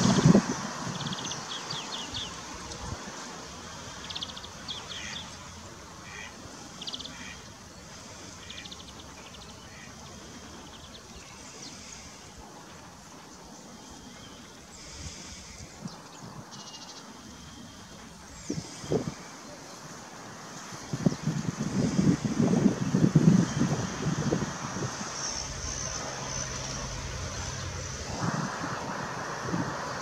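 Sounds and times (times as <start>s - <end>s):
steady background noise: 0.0s - 30.0s.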